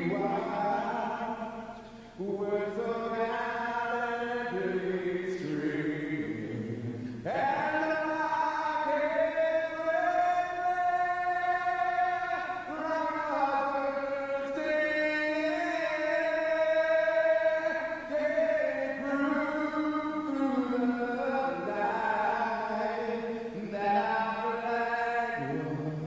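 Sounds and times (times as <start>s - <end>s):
choir singing long chords: 0.0s - 26.0s.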